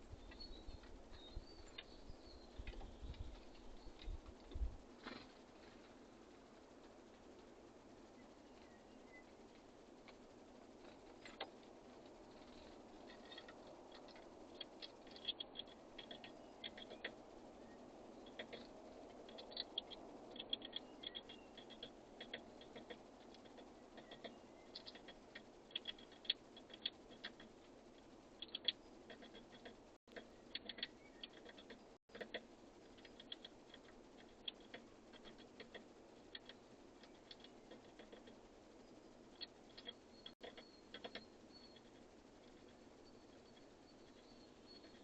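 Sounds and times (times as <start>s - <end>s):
birds pecking at seed: 0.0s - 45.0s
low outdoor hiss: 0.0s - 45.0s.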